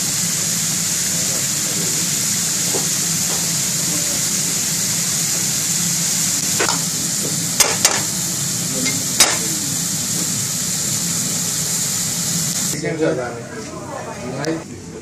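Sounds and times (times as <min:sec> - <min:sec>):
curry simmering and sizzling: 0:00.0 - 0:12.8
gas burner hiss: 0:00.0 - 0:14.7.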